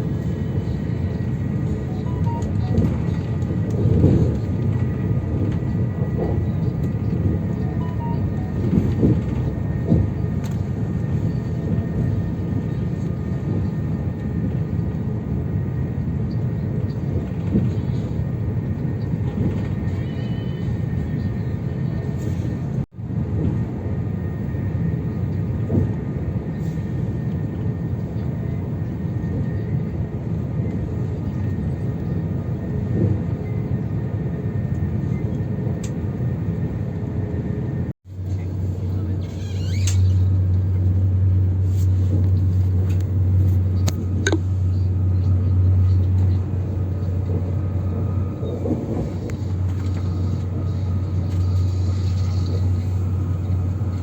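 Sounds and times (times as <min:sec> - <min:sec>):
high-speed train rumble: 0:00.0 - 0:54.0.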